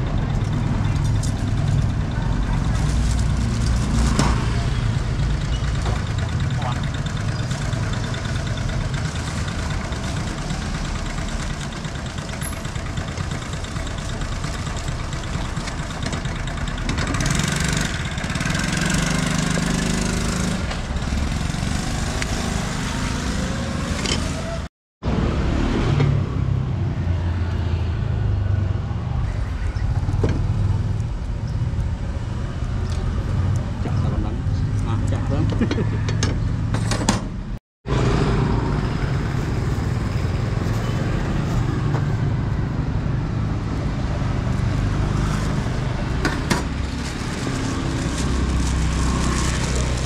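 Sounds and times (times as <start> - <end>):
vehicle engines running: 0.0 - 50.0.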